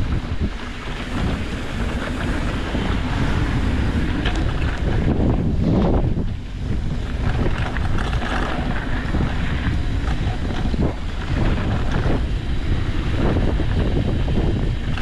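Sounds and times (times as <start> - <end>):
bike clattering over rough ground: 0.0 - 15.0
tyres rumbling on trail: 0.0 - 15.0
wind rushing over microphone: 0.0 - 15.0.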